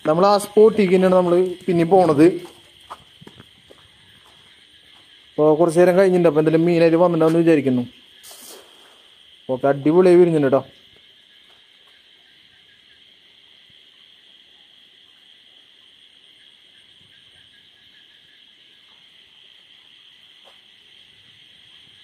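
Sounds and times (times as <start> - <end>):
night insects chorus: 0.0 - 22.0.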